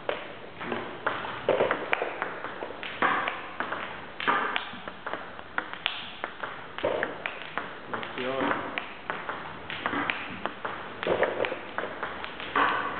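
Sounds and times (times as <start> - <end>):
table tennis ball clicks: 1.0 - 12.9.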